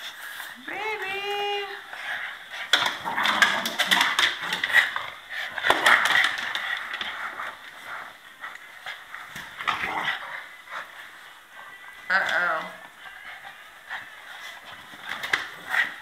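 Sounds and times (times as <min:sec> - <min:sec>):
puppies scuffling and scrabbling: 0:00.0 - 0:16.0.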